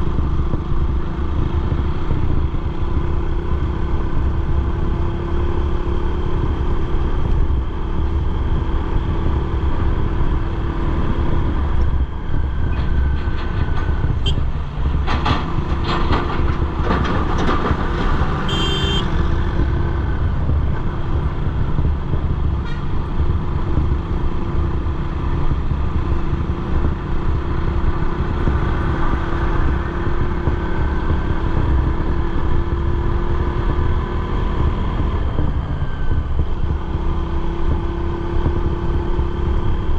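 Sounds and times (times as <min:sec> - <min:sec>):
low road rumble: 0:00.0 - 0:39.9
motorcycle engine drone: 0:00.0 - 0:39.9.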